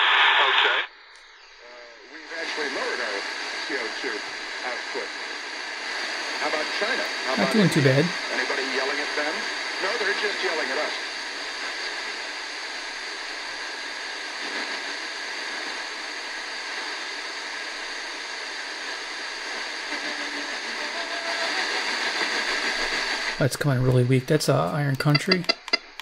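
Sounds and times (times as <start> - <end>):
radio static hissing: 0.0 - 26.0
weak radio station: 0.0 - 26.0.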